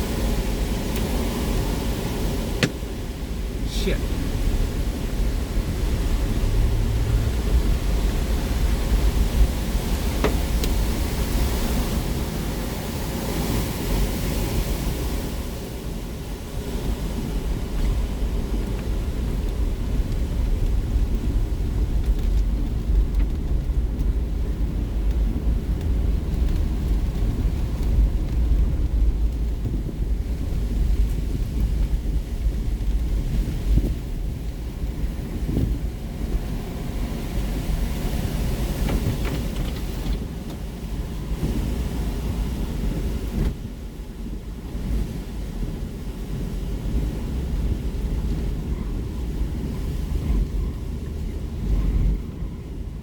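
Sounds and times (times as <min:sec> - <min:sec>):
strong wind gusting on microphone: 0:00.0 - 0:53.0.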